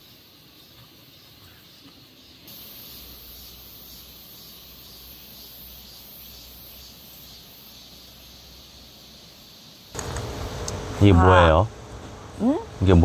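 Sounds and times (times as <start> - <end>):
insects trilling: 0.0 - 11.7.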